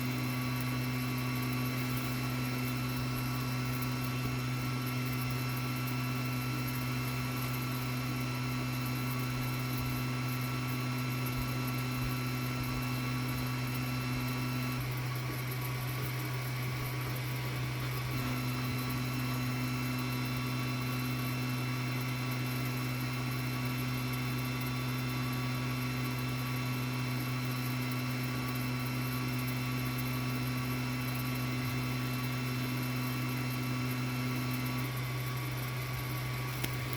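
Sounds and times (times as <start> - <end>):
printer fan and motor hum: 0.0 - 36.9.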